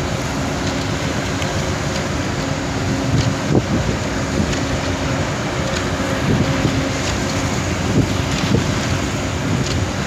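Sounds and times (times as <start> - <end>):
choppy sea washing: 0.0 - 10.0
wind buffeting microphone: 0.0 - 10.0.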